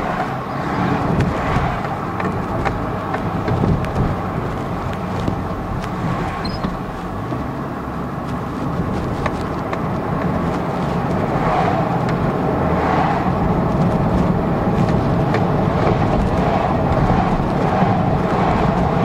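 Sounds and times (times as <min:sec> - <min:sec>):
car driving slowly: 0:00.0 - 0:19.0.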